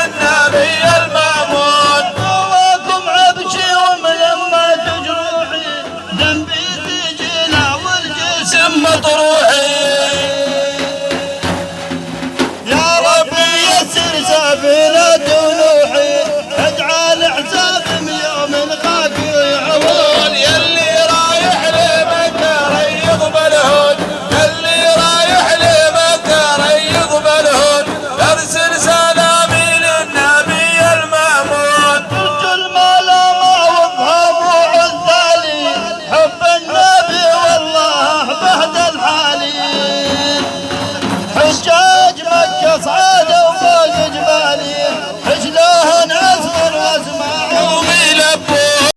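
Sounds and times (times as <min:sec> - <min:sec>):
drum strokes: 0:00.0 - 0:48.9.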